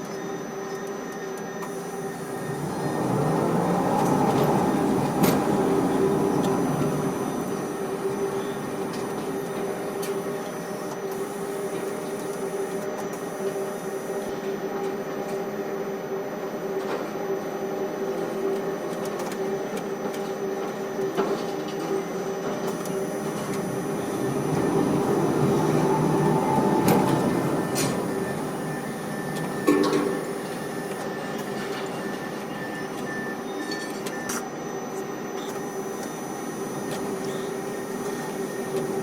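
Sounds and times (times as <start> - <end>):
crane machinery electric hum and whine: 0.0 - 39.0.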